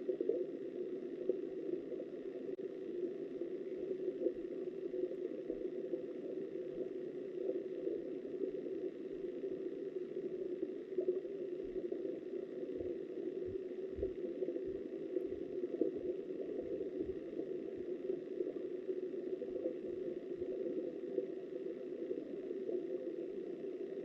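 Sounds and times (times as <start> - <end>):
muffled underwater river rush: 0.0 - 24.0.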